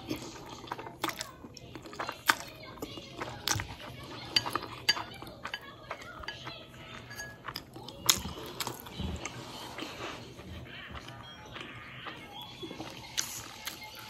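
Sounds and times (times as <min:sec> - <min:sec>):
chewing and lip smacking: 0:00.0 - 0:14.0.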